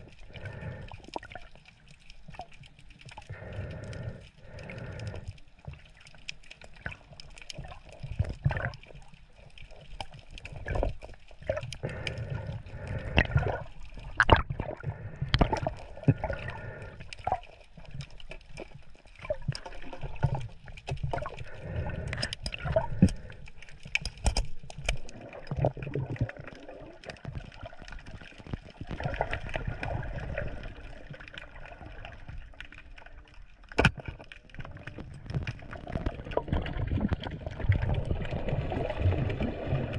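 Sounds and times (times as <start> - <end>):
water sloshing and gurgling: 0.0 - 39.9
water splashes: 0.0 - 39.9.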